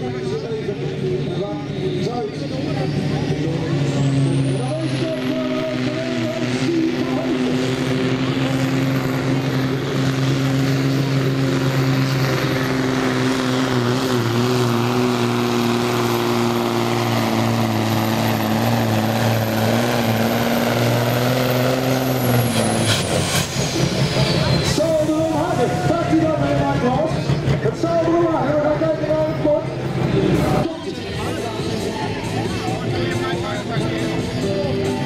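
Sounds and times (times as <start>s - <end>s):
diesel truck engine under load: 0.0s - 35.0s.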